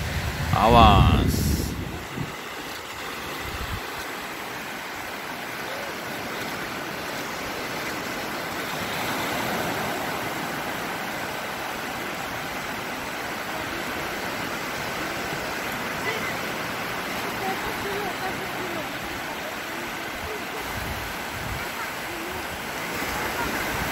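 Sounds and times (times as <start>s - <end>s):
small waves washing onto beach: 0.0s - 23.9s.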